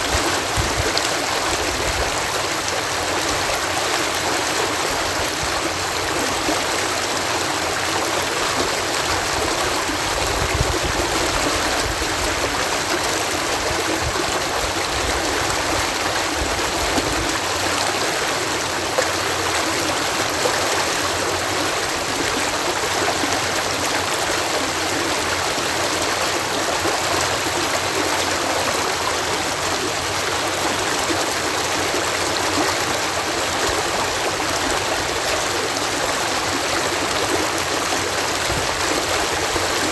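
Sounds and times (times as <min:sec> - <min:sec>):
water cascading over a lock: 0:00.0 - 0:39.9.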